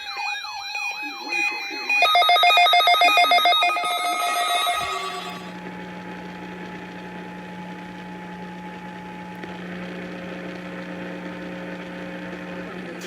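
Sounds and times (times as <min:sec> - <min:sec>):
electrical hum: 0:00.0 - 0:13.0
faint steady tones: 0:00.0 - 0:13.0.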